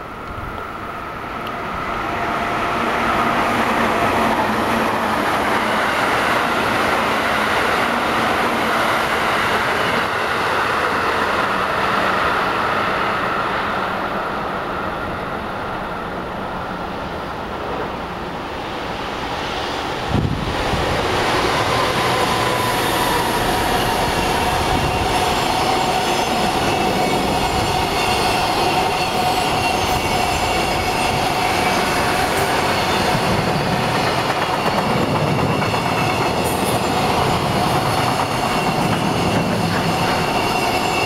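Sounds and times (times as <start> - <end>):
train wheels rolling on rail: 0.0 - 41.0.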